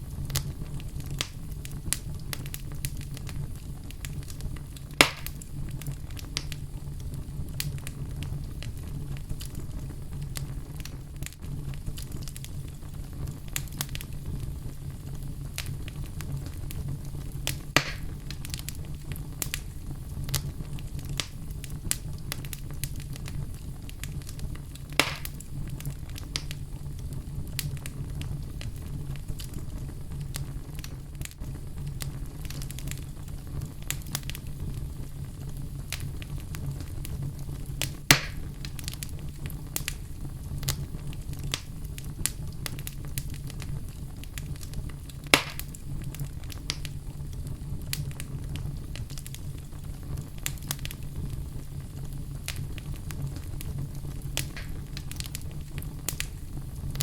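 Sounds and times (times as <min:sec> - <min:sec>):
fireplace fire crackling: 0:00.0 - 0:57.0
loud fire snaps: 0:00.0 - 0:57.0.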